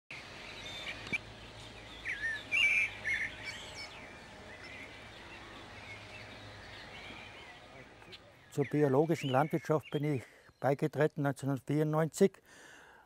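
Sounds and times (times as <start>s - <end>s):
songbirds chirping: 0.1s - 13.0s.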